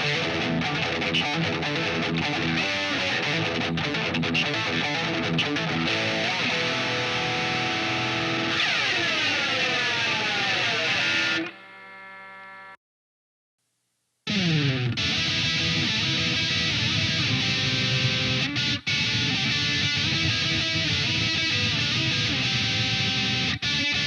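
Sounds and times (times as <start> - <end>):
distorted electric guitar: 0.0 - 12.8, 14.2 - 24.0.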